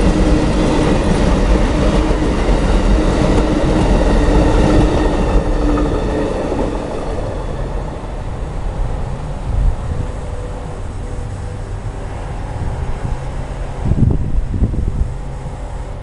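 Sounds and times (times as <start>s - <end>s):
low hum: 0.0s - 16.0s
train passing rumble: 0.0s - 16.0s.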